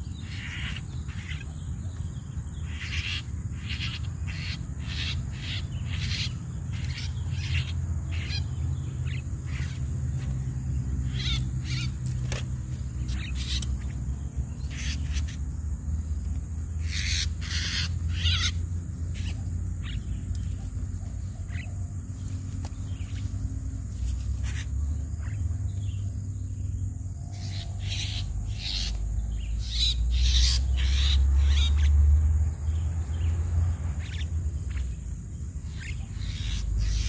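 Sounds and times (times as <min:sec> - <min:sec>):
harsh starling calls: 0:00.0 - 0:37.0.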